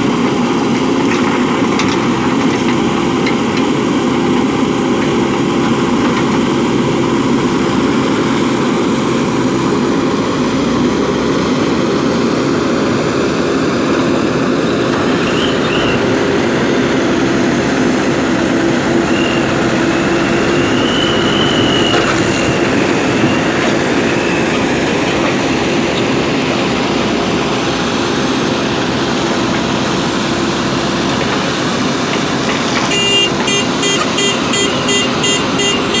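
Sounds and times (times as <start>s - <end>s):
heavy diesel engine humming: 0.0s - 36.0s.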